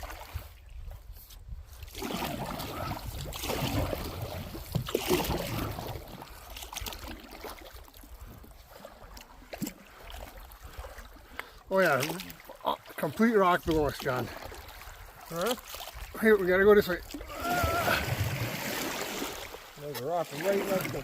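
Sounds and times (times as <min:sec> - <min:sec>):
canoe paddles swishing through water: 0:00.0 - 0:21.0
water trickling along hull: 0:00.0 - 0:21.0.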